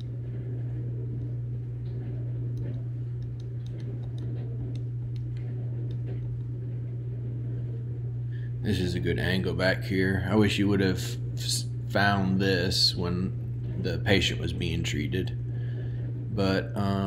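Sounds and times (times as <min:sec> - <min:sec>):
dishwasher humming: 0:00.0 - 0:17.0.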